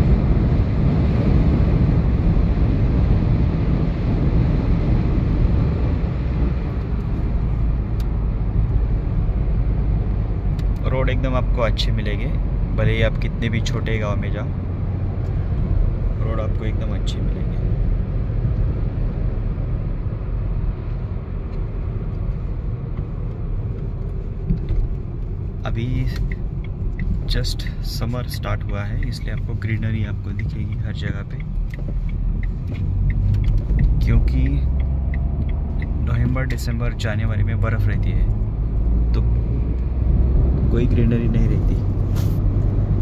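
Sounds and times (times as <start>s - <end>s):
tyres rumbling on tarmac: 0.0s - 43.0s.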